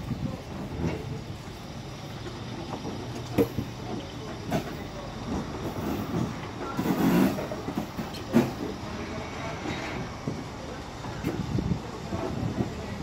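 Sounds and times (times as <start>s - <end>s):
train rolling past rumbling: 0.0s - 13.0s
train wheels clunking on track: 0.0s - 13.0s.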